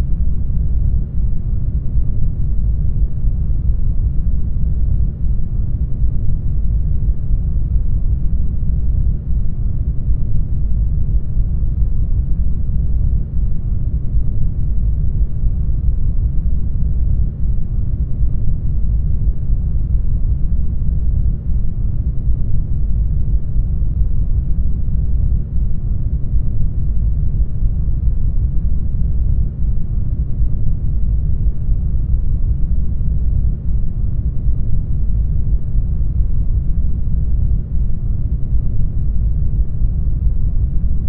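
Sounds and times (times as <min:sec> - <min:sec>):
deep muffled rumble: 0:00.0 - 0:41.0.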